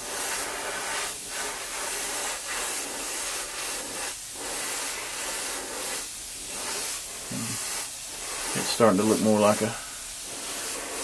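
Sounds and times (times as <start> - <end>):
airbrush spraying hiss: 0.0 - 11.0.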